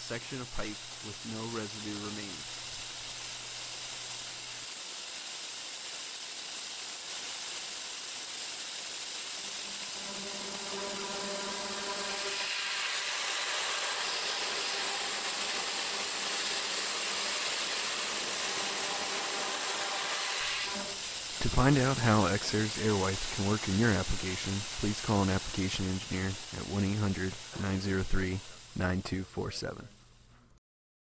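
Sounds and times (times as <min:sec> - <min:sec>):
faint hum with overtones: 0:00.0 - 0:04.6, 0:09.3 - 0:30.6
compressed air hissing: 0:00.0 - 0:30.3.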